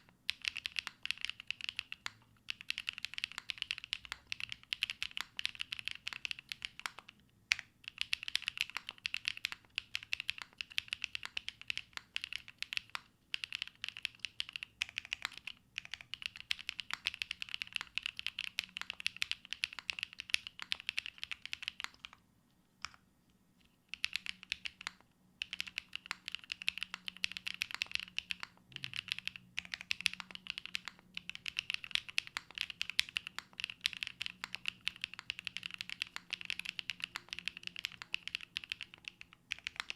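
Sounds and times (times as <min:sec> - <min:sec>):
fast typing on mechanical keyboard: 0:00.0 - 0:22.2, 0:23.9 - 0:39.9.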